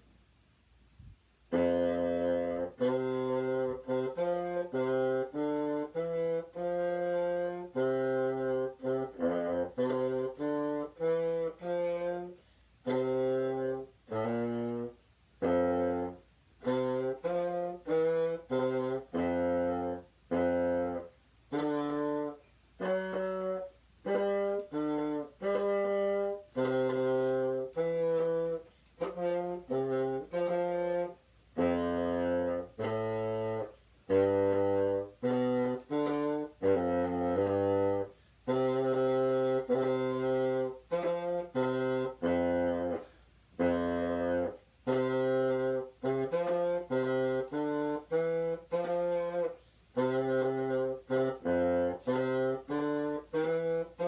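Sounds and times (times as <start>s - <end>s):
bassoon playing low notes: 1.0s - 54.0s.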